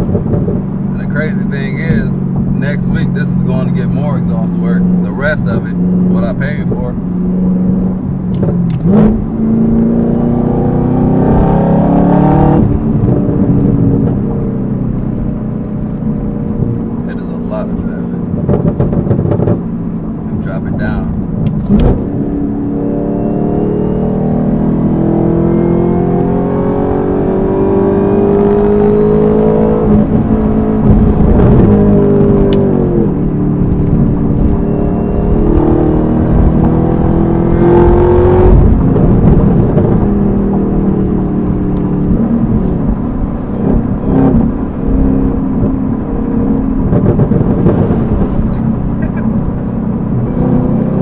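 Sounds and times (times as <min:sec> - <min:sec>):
car engine revving hard: 0:00.9 - 0:08.0, 0:08.7 - 0:14.4, 0:15.7 - 0:51.0.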